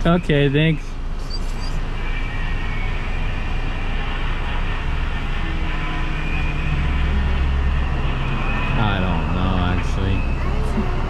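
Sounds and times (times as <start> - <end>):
car engine idling: 0.0 - 11.0
low hum: 0.0 - 11.0.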